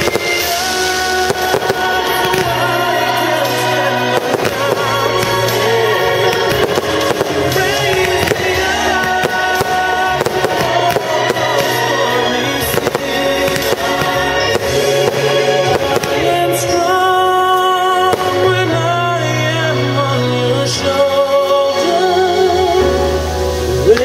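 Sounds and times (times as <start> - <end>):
fireworks bursting and crackling: 0.0 - 22.4
song with sustained chords: 0.0 - 24.0.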